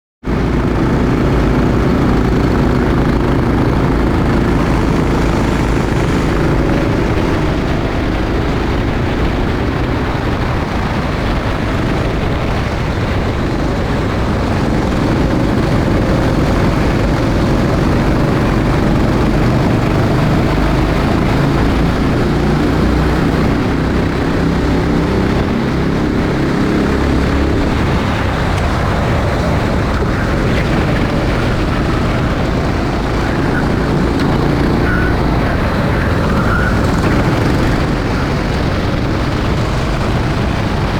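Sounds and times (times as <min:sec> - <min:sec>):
kart engine racing: 0:00.2 - 0:40.9.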